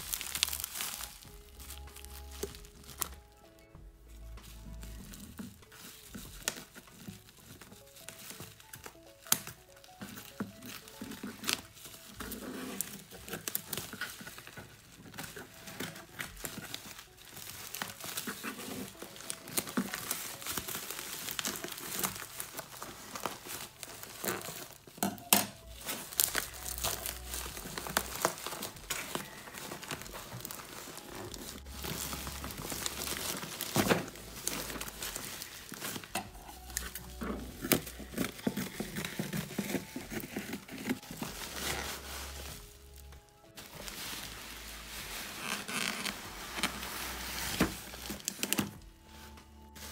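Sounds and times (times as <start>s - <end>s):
bubble wrap crinkling: 0.0s - 49.9s.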